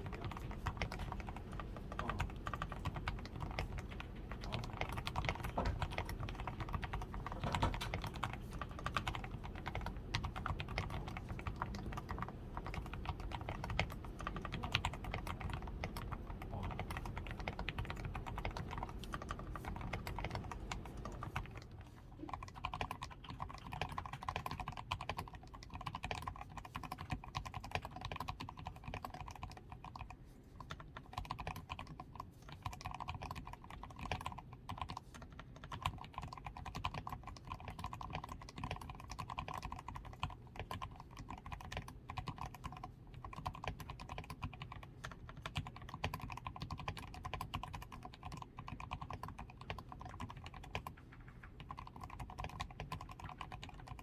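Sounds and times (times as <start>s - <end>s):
mechanical keyboard typing: 0.0s - 54.0s.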